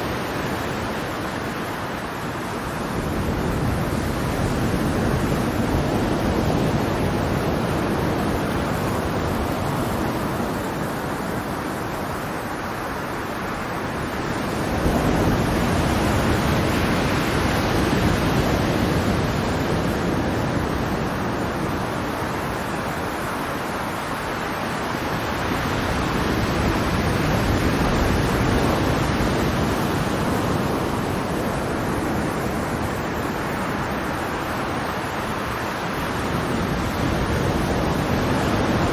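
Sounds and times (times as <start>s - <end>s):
ocean waves washing onto shore: 0.0s - 38.9s.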